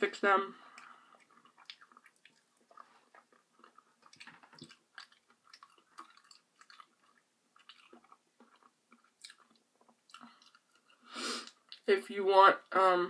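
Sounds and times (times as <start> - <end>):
close-up chewing: 0.6 - 11.9.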